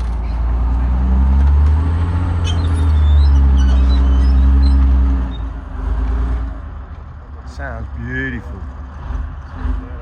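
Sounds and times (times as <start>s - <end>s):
heavy vehicle engine rumbling: 0.0s - 10.0s.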